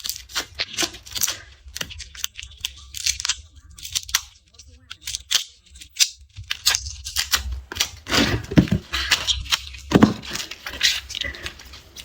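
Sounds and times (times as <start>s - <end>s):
garlic skins cracking: 0.0s - 12.0s
papery tearing and rustling: 0.0s - 12.0s.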